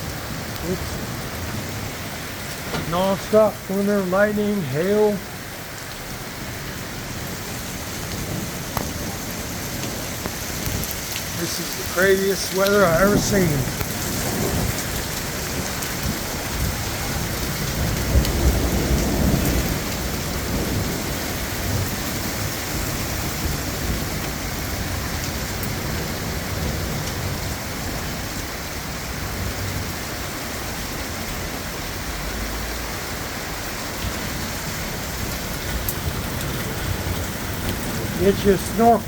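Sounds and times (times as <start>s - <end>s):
heavy rain pouring: 0.0s - 39.0s
low rolling thunder: 6.4s - 39.0s.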